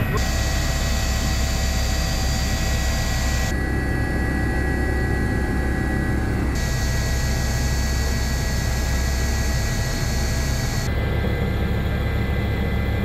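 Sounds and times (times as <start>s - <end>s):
helicopter cabin drone: 0.0s - 13.0s.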